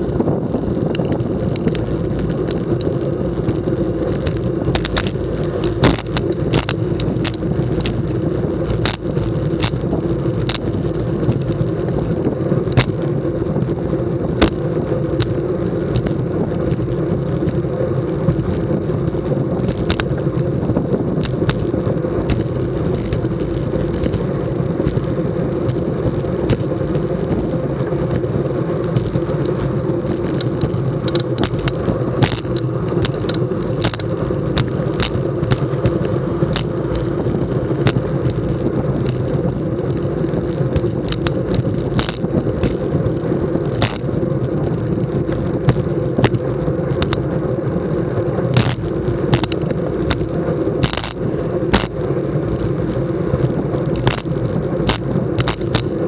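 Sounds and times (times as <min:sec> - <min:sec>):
bicycle tyre rumble on concrete: 0:00.0 - 0:56.0
wind noise: 0:00.0 - 0:56.0
sharp clicks and knocks: 0:00.8 - 0:13.0, 0:13.6 - 0:14.6, 0:15.2 - 0:17.6, 0:18.2 - 0:27.5, 0:28.9 - 0:47.3, 0:48.5 - 0:56.0.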